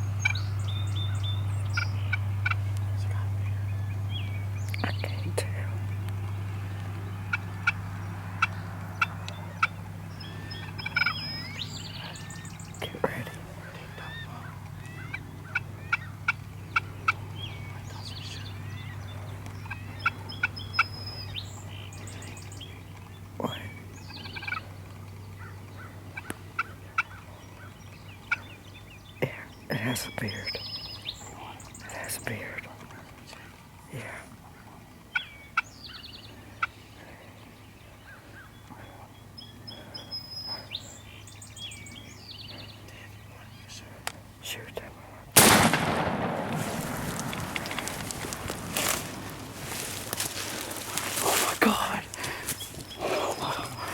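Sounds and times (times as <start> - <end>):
turkey calling: 0.0 - 5.0, 5.8 - 23.3, 23.9 - 28.9, 34.4 - 42.9, 45.4 - 53.9
songbirds singing faintly: 0.0 - 53.9.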